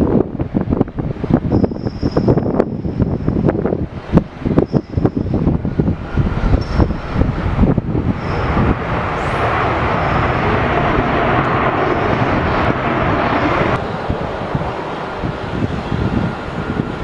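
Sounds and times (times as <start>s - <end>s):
jet engine roar: 0.0s - 17.0s
wind rumble on microphone: 0.0s - 17.0s.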